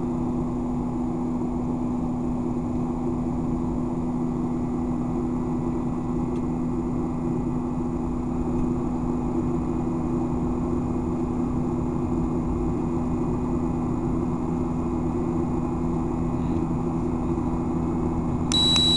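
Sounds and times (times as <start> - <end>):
jet engine drone in cabin: 0.0 - 18.9.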